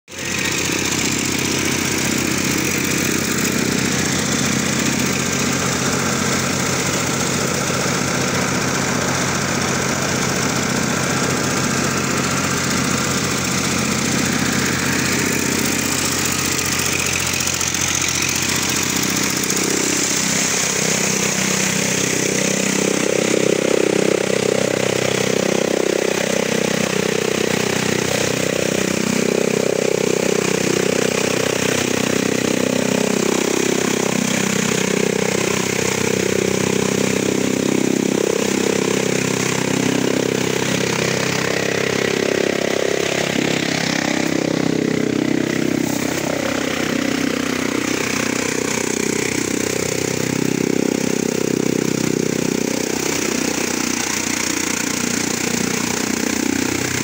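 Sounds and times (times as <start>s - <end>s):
chaff cutter chopping stalks: 0.1s - 57.0s
tractor engine running: 0.1s - 57.0s.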